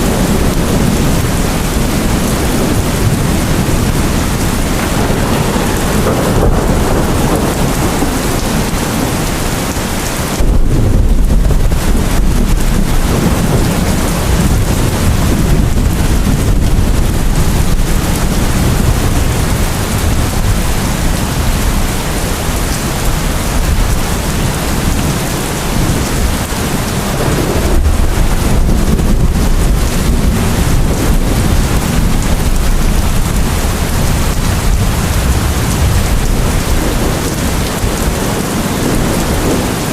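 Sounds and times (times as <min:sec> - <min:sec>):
heavy rain: 0:00.0 - 0:39.9
rolling thunder: 0:00.0 - 0:39.9.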